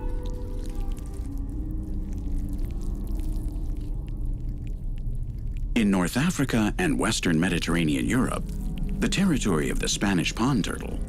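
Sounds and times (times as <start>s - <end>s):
deep rumble: 0.0s - 11.0s
soft background music: 0.0s - 11.0s.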